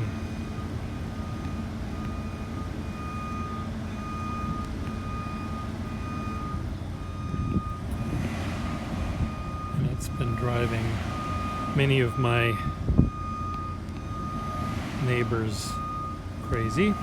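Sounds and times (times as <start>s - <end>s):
backup alarm beeping: 0.0s - 17.0s
low engine rumble: 0.0s - 17.0s.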